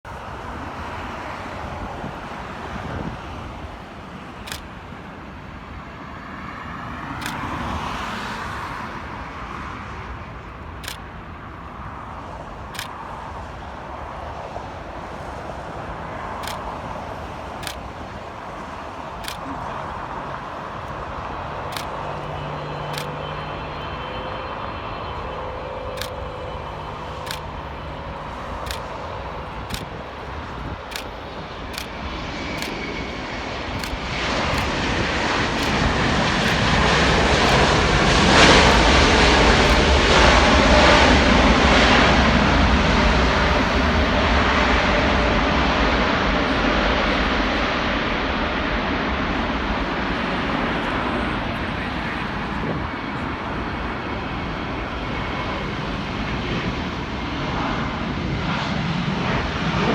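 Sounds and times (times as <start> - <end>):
jet engines roaring: 0.1 - 59.9.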